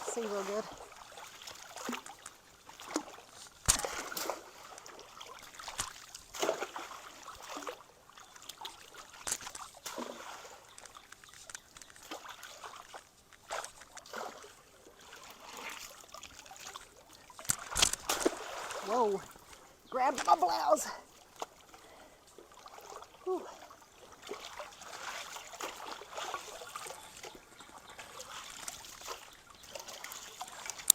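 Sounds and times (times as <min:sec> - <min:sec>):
water splashing from wading: 0:00.0 - 0:30.9.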